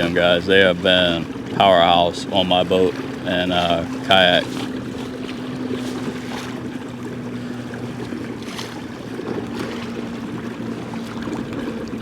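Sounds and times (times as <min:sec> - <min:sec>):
water splashing along hull: 0:00.0 - 0:12.0.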